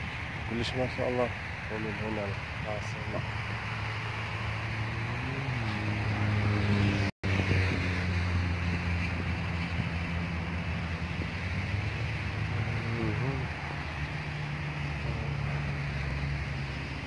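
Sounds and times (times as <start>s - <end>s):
wind noise on microphone: 0.0s - 17.0s.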